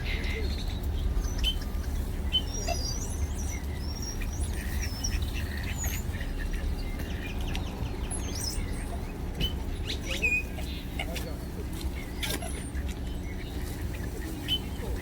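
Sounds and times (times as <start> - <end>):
birds chirping and calling: 0.0 - 15.0
steady low rumble: 0.0 - 15.0.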